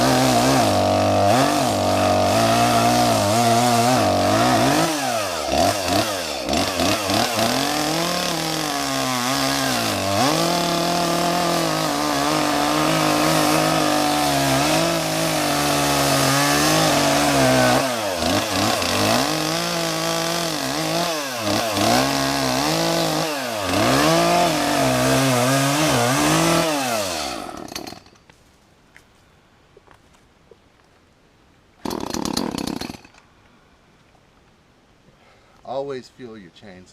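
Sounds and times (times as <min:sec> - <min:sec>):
chainsaw cutting tree: 0:00.0 - 0:28.3, 0:31.8 - 0:33.1.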